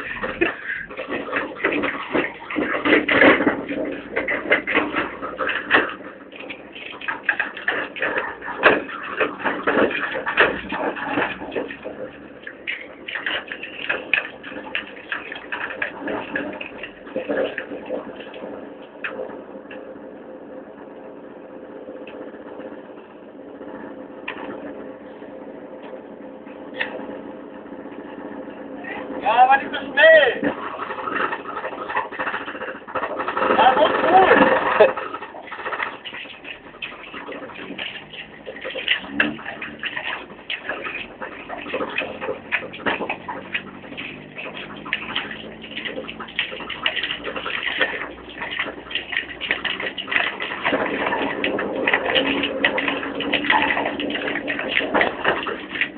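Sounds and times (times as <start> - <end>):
knocks and rattles: 0.0 - 55.9
vehicle engine running: 0.0 - 55.9.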